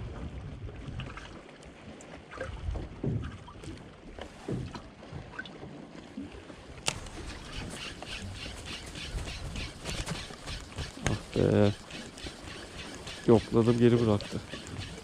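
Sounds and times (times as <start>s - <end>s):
wind buffeting microphone: 0.0s - 1.4s, 2.4s - 5.7s, 6.3s - 15.0s
water lapping against boat hull: 0.0s - 15.0s.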